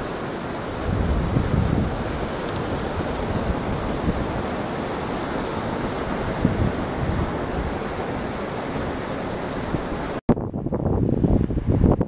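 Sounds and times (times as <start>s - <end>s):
surf breaking on rocks: 0.0s - 10.2s
wind buffeting microphone: 0.0s - 12.0s.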